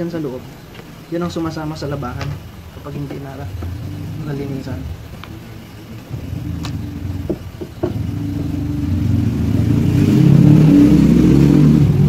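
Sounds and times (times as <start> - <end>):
engine running: 0.4 - 12.0.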